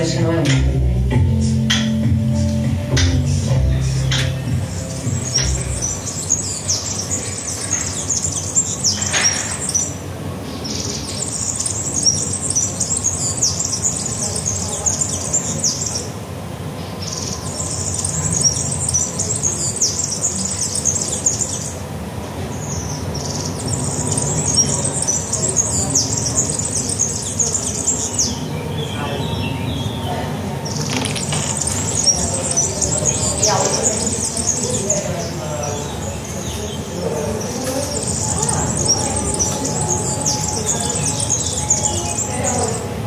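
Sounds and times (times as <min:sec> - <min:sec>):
low background noise: 0:00.0 - 0:43.0
bird twittering: 0:01.5 - 0:16.3, 0:16.9 - 0:21.9, 0:22.5 - 0:43.0.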